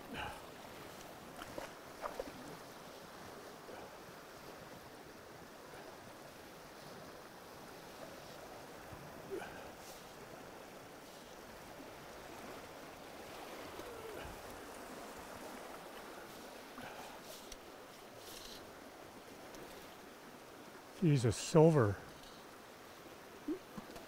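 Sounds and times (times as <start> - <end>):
river current rushing: 0.0 - 24.0.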